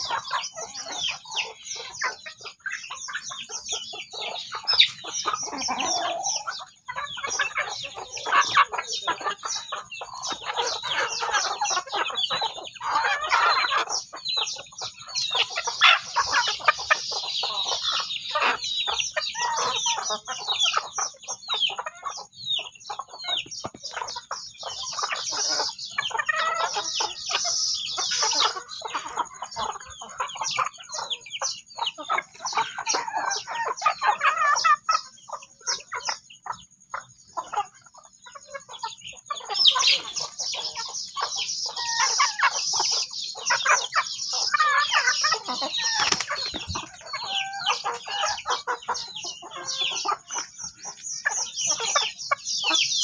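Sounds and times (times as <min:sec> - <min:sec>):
chickens clucking: 0:00.0 - 0:53.0
chicks peeping: 0:00.0 - 0:53.0.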